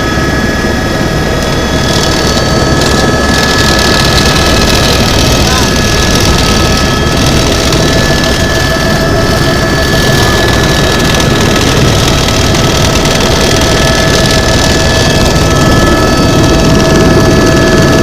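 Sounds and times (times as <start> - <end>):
helicopter engine and rotors: 0.0 - 18.0.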